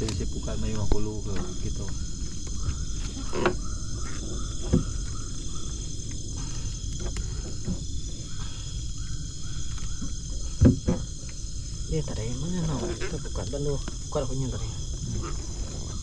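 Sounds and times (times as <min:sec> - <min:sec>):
crickets and insects trilling: 0:00.0 - 0:16.0
short repeating insect call: 0:00.0 - 0:16.0.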